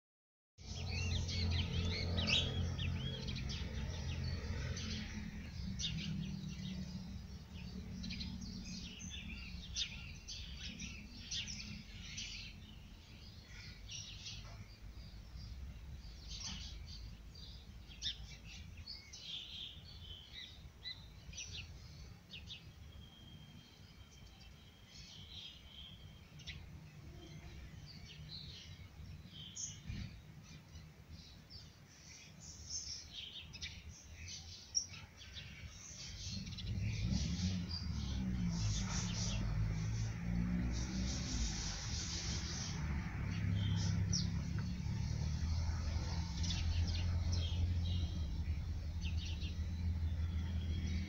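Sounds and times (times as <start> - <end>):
small birds chirping: 0.6 - 51.0.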